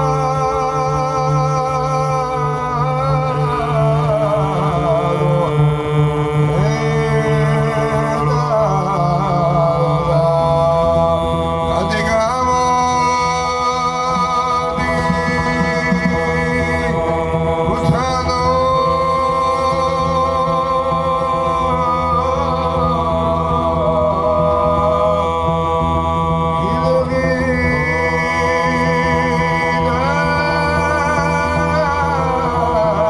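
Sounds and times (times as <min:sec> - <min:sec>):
folk voices singing melody: 0:00.0 - 0:33.0
sustained low vocal drone: 0:00.0 - 0:33.0.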